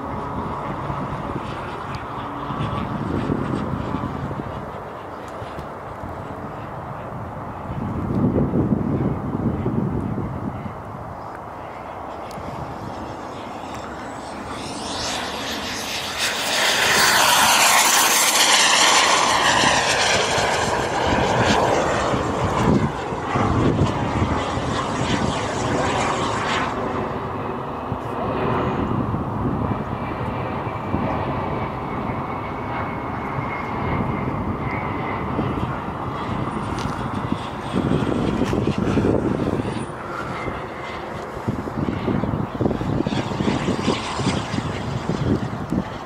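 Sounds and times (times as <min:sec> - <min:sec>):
model jet turbine whine: 0:00.0 - 0:46.0.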